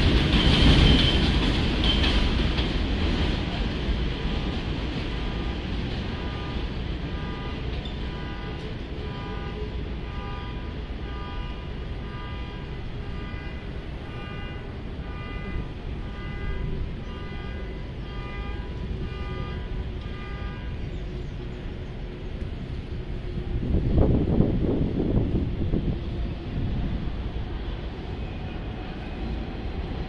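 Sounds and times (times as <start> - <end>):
subway train rumble: 0.0 - 30.0.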